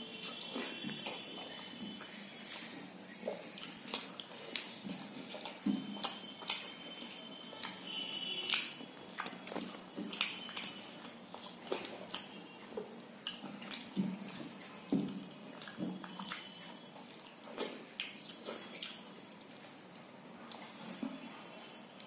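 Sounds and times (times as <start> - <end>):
mouth smacks and chewing: 0.1 - 22.0.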